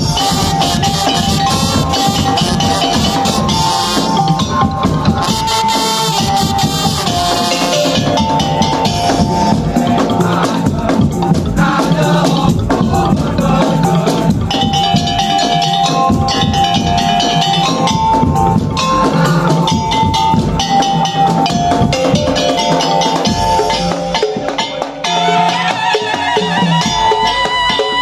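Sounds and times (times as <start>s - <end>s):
fast drum and percussion strokes: 0.0s - 28.0s.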